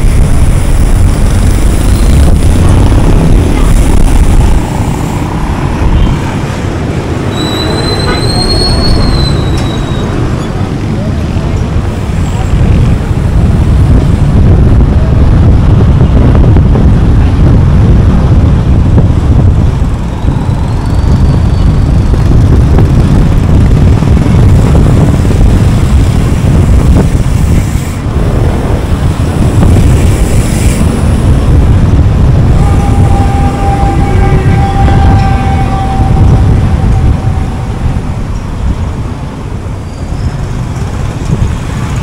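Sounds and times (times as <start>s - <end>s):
road and wind noise: 0.0s - 42.0s.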